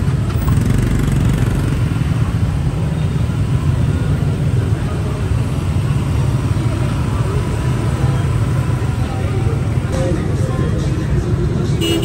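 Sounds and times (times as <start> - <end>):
motorbike street traffic: 0.0 - 12.0.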